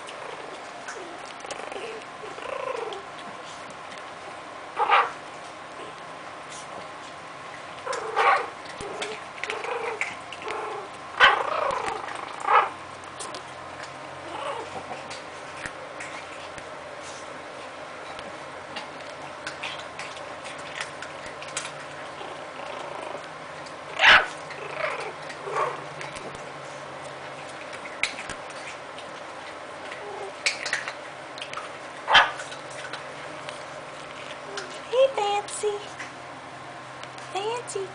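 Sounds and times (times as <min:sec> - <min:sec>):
puppy noises: 0:00.0 - 0:36.3.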